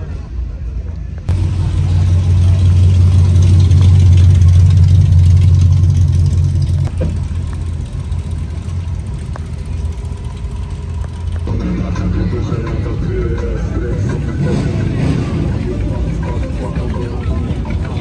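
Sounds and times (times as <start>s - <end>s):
car engine idling: 1.2s - 18.0s.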